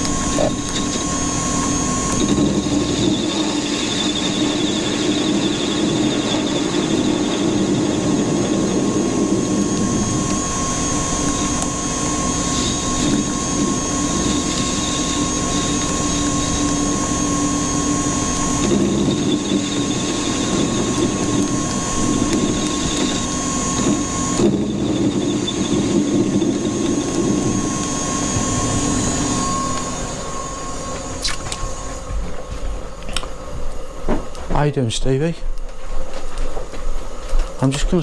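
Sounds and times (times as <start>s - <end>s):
metal lathe humming and whining: 0.0s - 34.4s.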